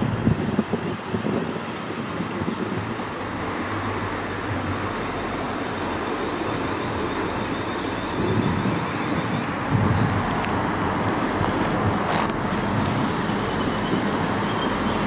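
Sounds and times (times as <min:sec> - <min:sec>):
train running on track: 0:00.0 - 0:15.0.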